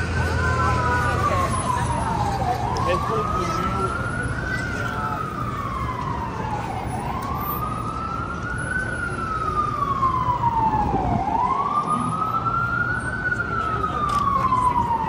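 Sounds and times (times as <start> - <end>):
city street traffic rumble: 0.0 - 15.0
emergency vehicle siren wailing: 0.0 - 15.0.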